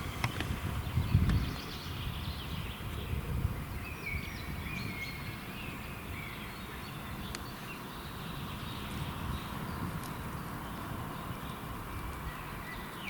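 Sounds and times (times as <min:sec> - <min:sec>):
steady low rumble: 0:00.0 - 0:12.8
small birds chirping: 0:00.0 - 0:13.0.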